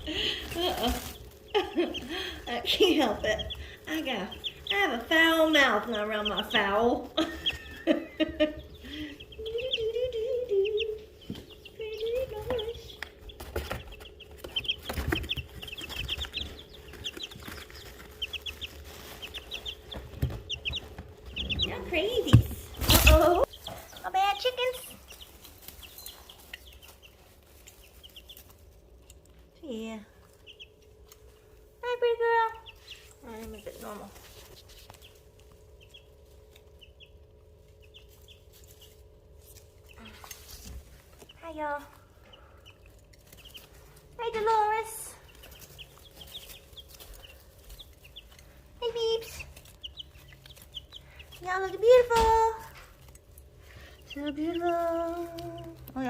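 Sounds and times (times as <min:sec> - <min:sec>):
chicks peeping: 0:00.0 - 0:56.0
chicks scuffling in litter: 0:00.0 - 0:56.0
faint steady hum: 0:00.0 - 0:56.0.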